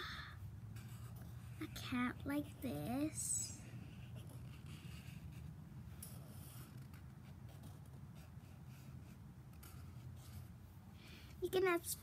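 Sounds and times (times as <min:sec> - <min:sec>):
low background hum: 0:00.0 - 0:12.0
marker drawing on paper: 0:00.7 - 0:10.6.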